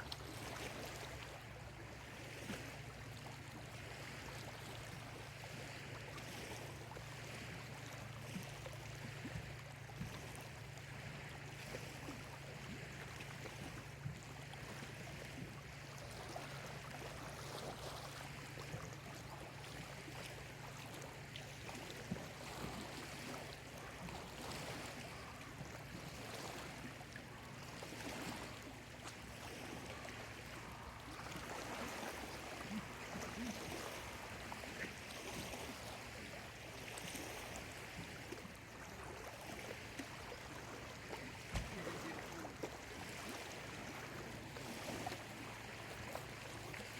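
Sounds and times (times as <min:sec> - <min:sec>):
small water splashes: 0:00.0 - 0:46.9
waves lapping at shore: 0:00.0 - 0:46.9.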